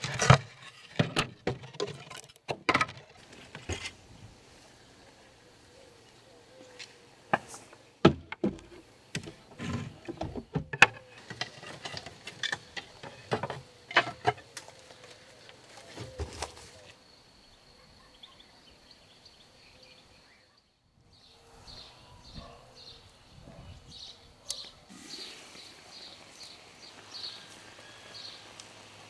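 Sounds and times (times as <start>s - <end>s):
quiet outdoor ambience: 0.0s - 29.0s.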